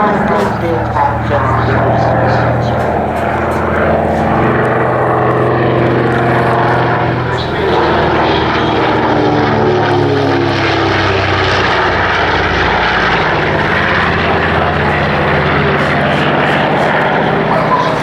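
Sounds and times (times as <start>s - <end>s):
propeller aircraft engines: 0.0s - 18.0s.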